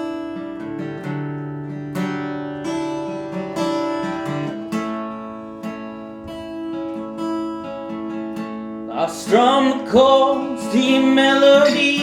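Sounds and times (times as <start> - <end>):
acoustic guitar strummed: 0.0 - 12.0.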